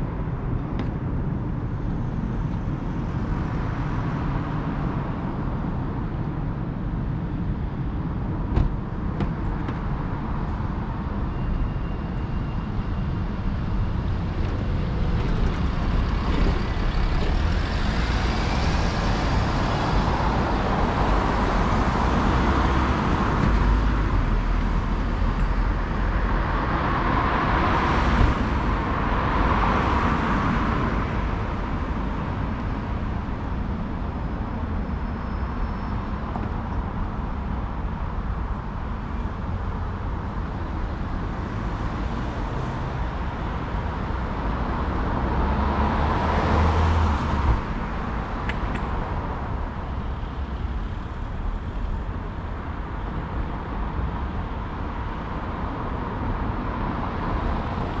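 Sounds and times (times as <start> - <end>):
road traffic rumble: 0.0 - 58.0
vehicles passing close by: 0.0 - 58.0.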